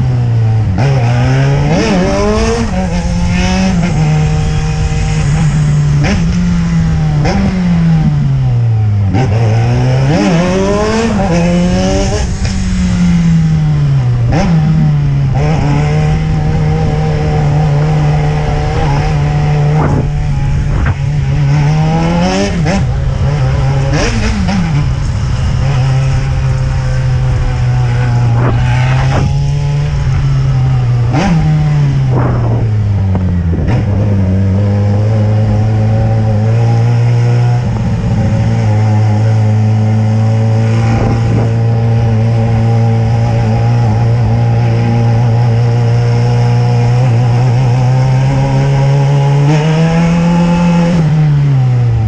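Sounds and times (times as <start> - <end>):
wind rumbling on microphone: 0.0 - 52.0
motorcycle engine running: 10.2 - 52.0.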